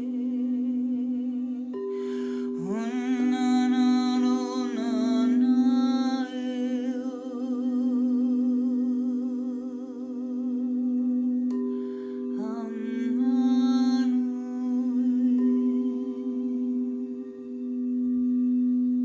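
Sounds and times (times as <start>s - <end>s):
person humming: 0.0s - 17.7s
singing bowls ringing: 0.0s - 19.0s.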